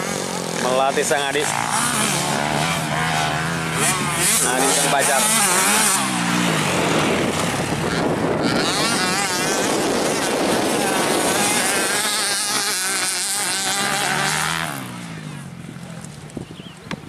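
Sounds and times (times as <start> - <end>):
motocross bike engine revving: 0.0 - 16.3
wind buffeting microphone: 1.2 - 17.0.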